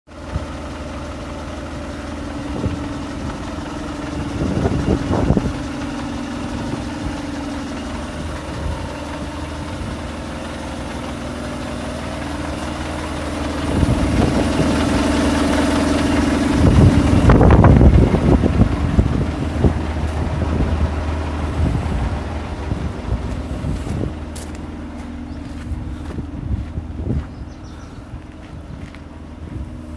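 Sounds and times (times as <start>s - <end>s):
diesel lorry engine idling: 0.1s - 29.9s.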